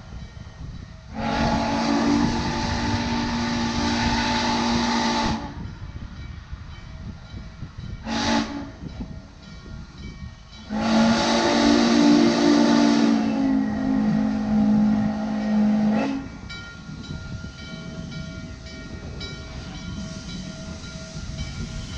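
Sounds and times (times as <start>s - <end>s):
steam locomotive chime whistle: 0.0s - 6.2s, 8.0s - 21.9s
steam locomotive running: 0.0s - 21.9s.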